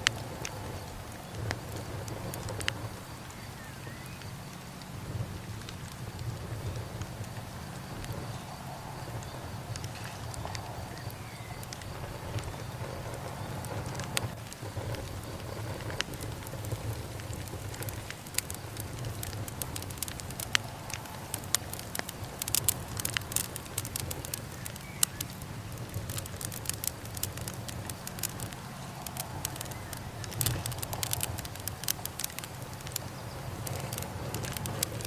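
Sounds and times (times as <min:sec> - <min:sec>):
burning wood crackling and popping: 0:00.0 - 0:35.0
steady low rumble: 0:00.0 - 0:35.0.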